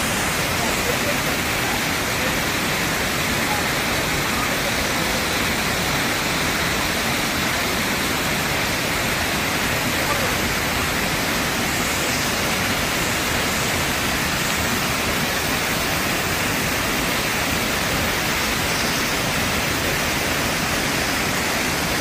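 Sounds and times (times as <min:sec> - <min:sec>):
waterfall over boulders: 0:00.0 - 0:22.0.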